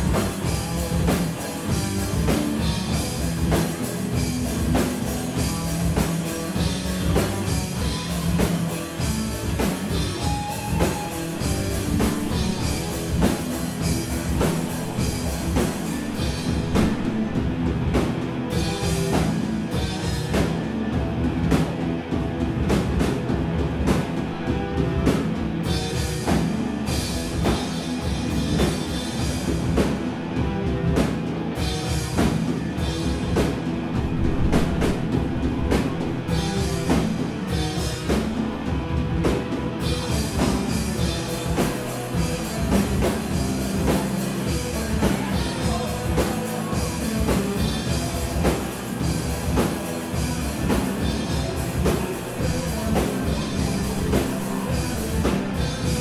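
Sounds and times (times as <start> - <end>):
distorted electric guitar: 0.0 - 56.0
drum kit: 0.0 - 56.0.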